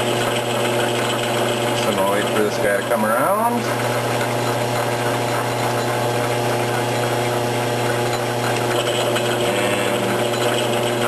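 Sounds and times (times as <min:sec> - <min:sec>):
metal lathe running: 0:00.0 - 0:11.0
motor hum: 0:00.0 - 0:11.0
spindle gear noise: 0:00.0 - 0:11.0.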